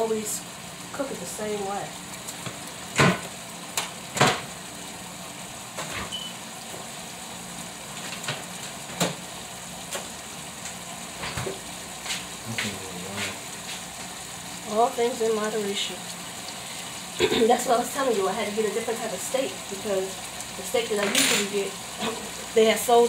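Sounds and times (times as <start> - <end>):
meat sizzling in a frying pan: 0.0 - 23.0.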